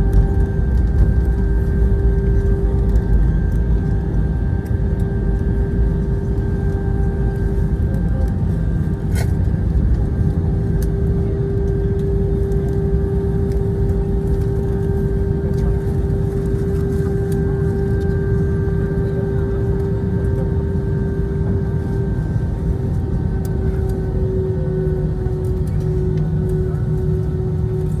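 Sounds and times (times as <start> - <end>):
airliner cabin engine rumble: 0.0 - 28.0.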